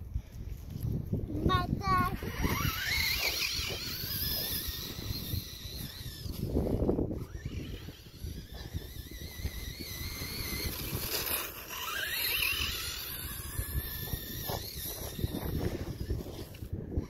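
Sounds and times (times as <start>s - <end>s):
wind buffeting microphone: 0.0s - 17.0s
toy buggy motor whining: 0.4s - 17.0s.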